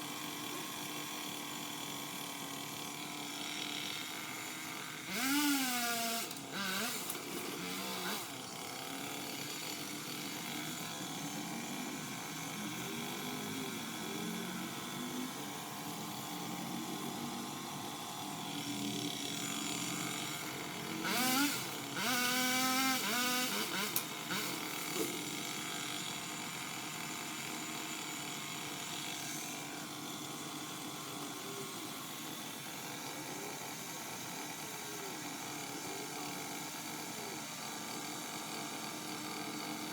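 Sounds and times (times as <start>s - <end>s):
pole saw motor revving: 0.0s - 39.9s.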